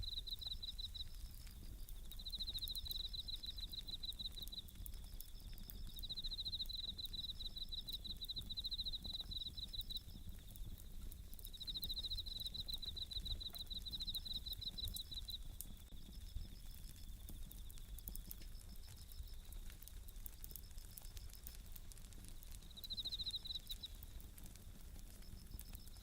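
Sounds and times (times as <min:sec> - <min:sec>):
campfire crackling: 0:00.0 - 0:26.0
crickets trilling: 0:00.0 - 0:26.0
fire pops: 0:00.0 - 0:26.0.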